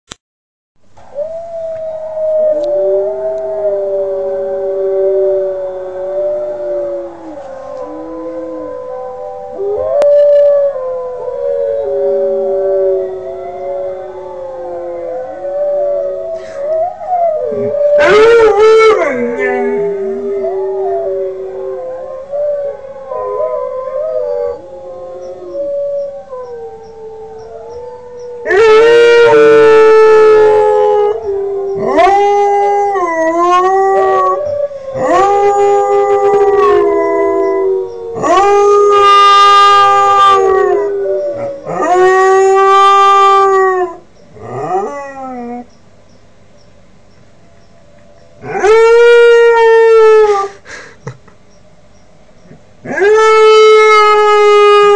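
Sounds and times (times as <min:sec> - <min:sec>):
puppy howling: 0:01.1 - 0:45.7, 0:48.4 - 0:50.6, 0:52.8 - 0:54.9.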